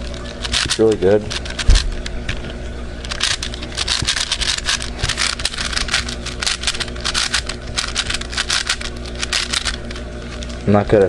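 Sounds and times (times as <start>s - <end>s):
puzzle cube plastic clicks: 0.4s - 1.8s, 3.1s - 10.5s.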